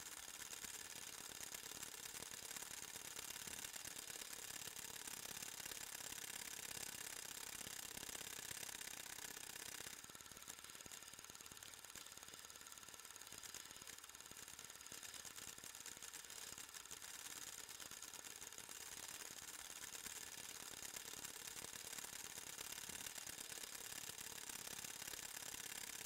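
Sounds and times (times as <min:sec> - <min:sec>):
film projector mechanism clatter: 0:00.0 - 0:26.0.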